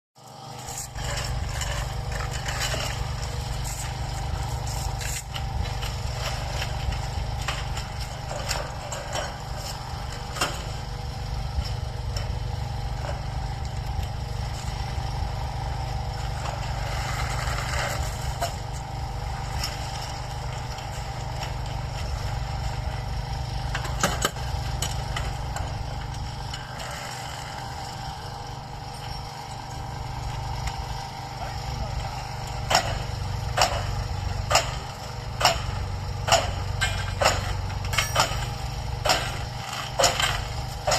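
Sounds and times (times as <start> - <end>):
held machine whine: 0.2 - 40.9
machinery engine drone: 0.2 - 40.9.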